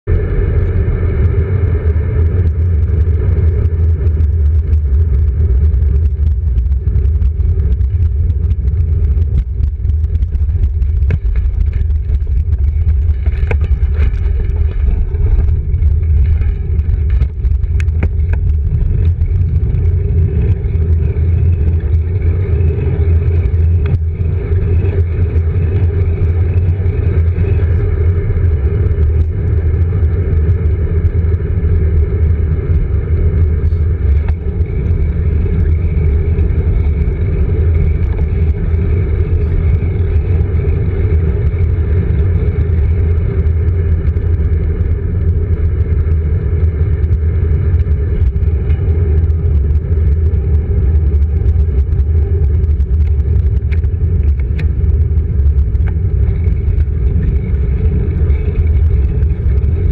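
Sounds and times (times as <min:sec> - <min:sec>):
road rumble: 0:00.0 - 0:59.9
wind buffeting: 0:00.0 - 0:59.9.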